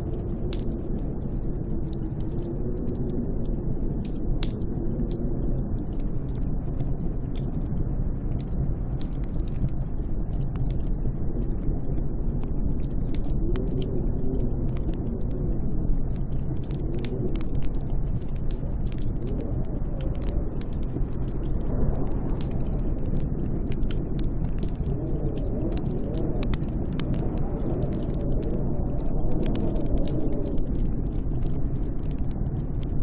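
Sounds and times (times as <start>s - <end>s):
howling storm wind: 0.0s - 33.0s
small sharp crackles: 0.0s - 33.0s.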